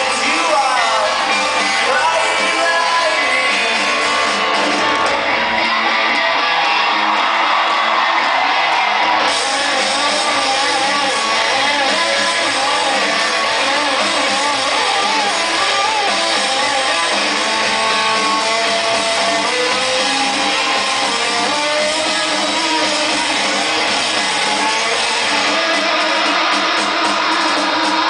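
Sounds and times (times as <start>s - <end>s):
electric guitar lead line: 0.0s - 28.0s
rock band playing: 0.0s - 28.0s.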